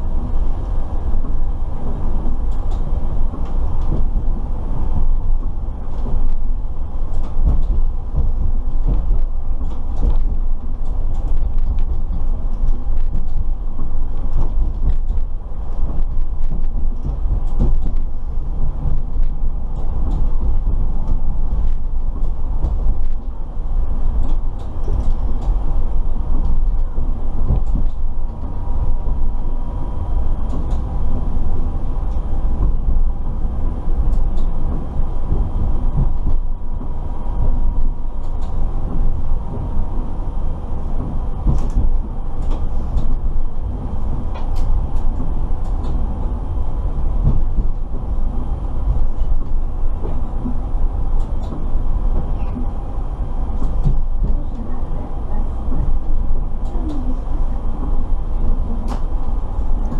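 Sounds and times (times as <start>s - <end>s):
wheel clicks on rail joints: 0.0s - 54.6s, 55.6s - 59.9s
steady whine: 0.0s - 59.9s
tram low rumble: 0.0s - 59.9s.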